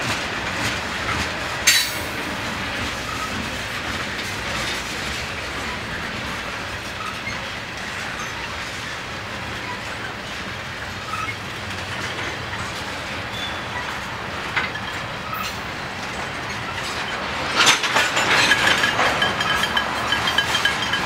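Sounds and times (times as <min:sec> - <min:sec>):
freight train wheels rattling: 0:00.0 - 0:21.0
wheels clacking over rail joint: 0:00.0 - 0:21.0.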